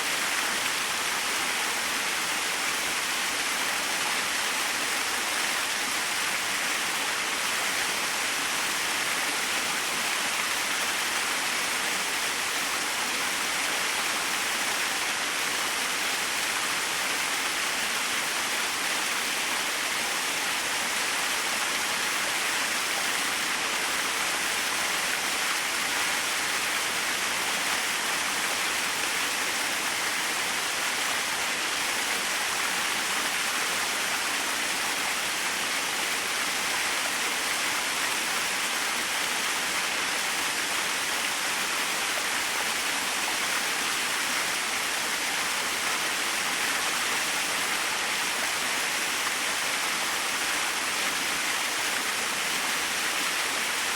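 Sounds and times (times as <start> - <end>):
small waterfall splashing: 0.0 - 53.9.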